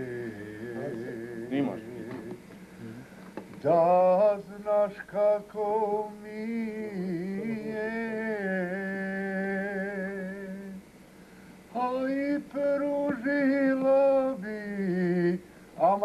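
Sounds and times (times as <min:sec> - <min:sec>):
man singing unaccompanied: 0:00.0 - 0:02.5, 0:03.5 - 0:10.8, 0:11.7 - 0:16.0.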